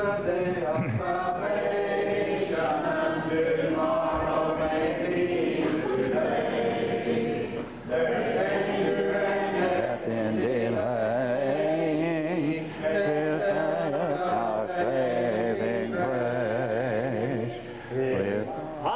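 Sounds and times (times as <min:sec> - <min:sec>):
congregation singing a hymn: 0:00.0 - 0:18.9.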